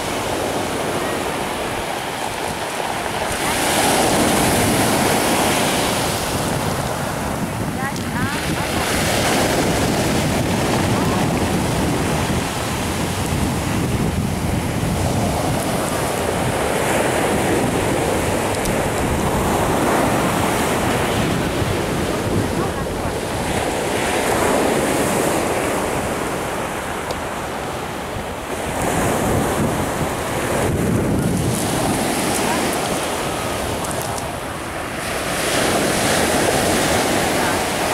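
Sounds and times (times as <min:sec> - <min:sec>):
surf breaking on pebble beach: 0:00.0 - 0:37.9
wind buffeting microphone: 0:00.0 - 0:37.9.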